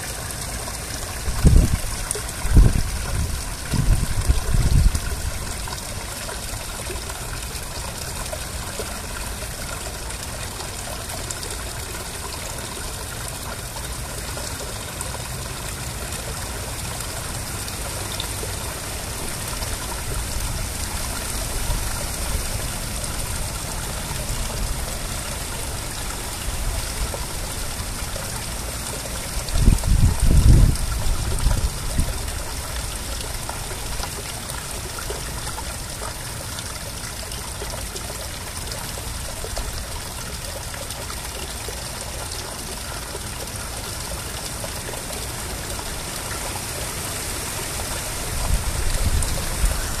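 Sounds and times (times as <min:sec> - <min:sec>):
water trickling into pond: 0:00.0 - 0:50.0.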